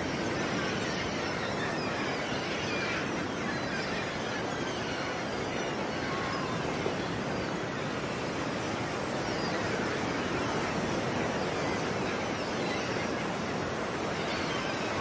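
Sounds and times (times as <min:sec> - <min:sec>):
faint seagull calls: 0:00.2 - 0:15.0.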